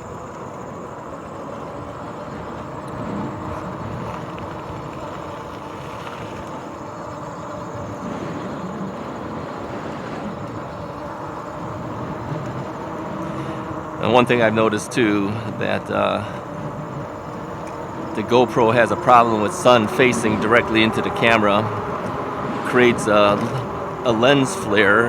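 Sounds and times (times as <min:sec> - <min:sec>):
bike tyres rolling on trail: 0:00.0 - 0:25.0
faint steady whine: 0:00.0 - 0:25.0.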